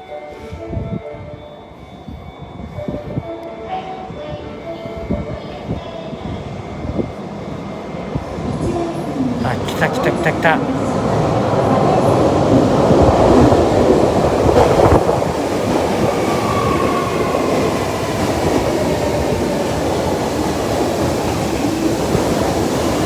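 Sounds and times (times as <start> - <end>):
train rail rumble: 0.1 - 23.0.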